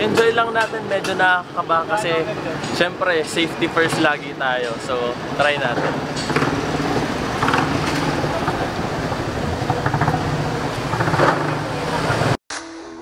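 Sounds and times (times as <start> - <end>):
street traffic roar: 0.0 - 12.4.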